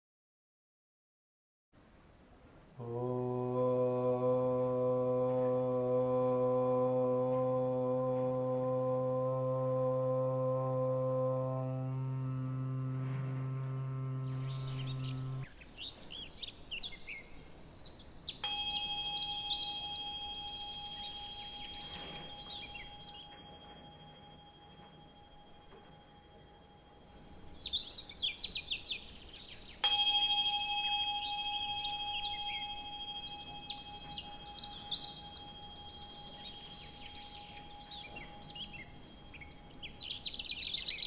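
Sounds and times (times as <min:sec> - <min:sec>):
low held drone: 0:02.8 - 0:15.5, 0:18.6 - 0:29.0, 0:30.2 - 0:40.6
songbirds chirping: 0:02.8 - 0:41.0.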